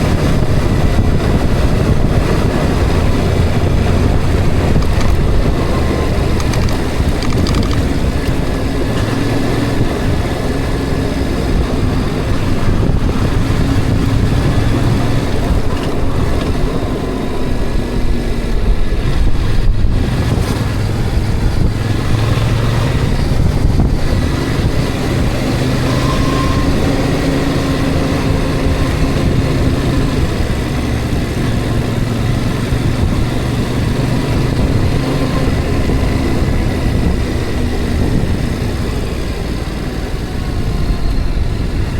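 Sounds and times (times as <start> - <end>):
road rumble: 0.0 - 41.9
vehicle engine drone: 0.0 - 41.9.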